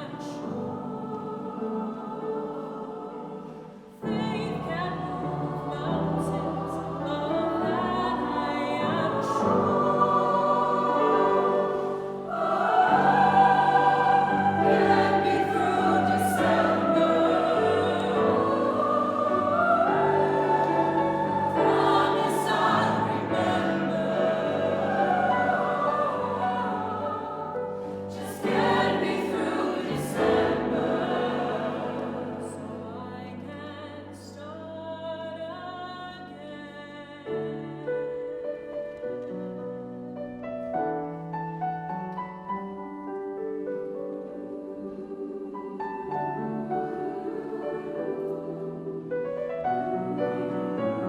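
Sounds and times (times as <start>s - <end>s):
choir singing: 0.0s - 40.1s, 42.8s - 51.0s.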